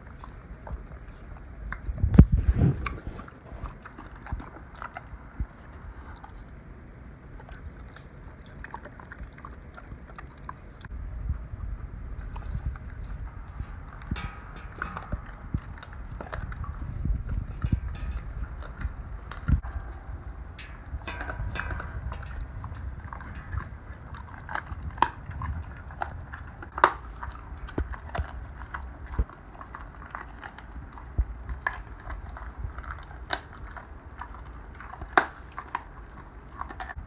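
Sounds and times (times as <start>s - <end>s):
dog chewing and crunching bones: 0.0s - 37.0s
sharp clicks and cracks: 0.1s - 37.0s.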